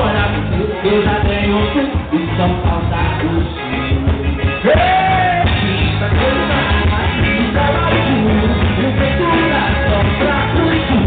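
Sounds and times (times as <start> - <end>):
accordion: 0.0 - 11.0
live band playing dance music: 0.0 - 11.0.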